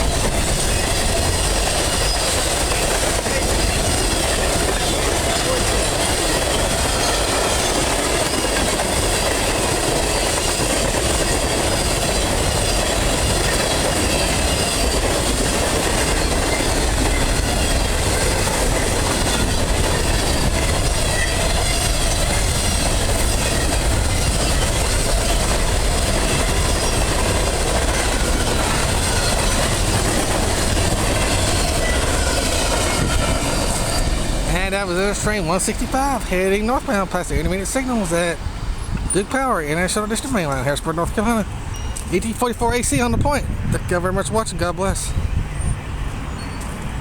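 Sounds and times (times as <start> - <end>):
freight train cars rolling: 0.0 - 47.0
steel wheels on rails: 0.0 - 47.0.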